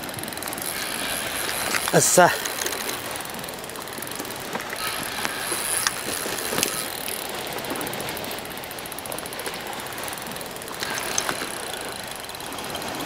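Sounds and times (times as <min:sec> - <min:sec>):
faint clicks and knocks: 0:00.0 - 0:13.0
sea washing on rocky shore: 0:00.0 - 0:13.0
wind: 0:00.0 - 0:13.0.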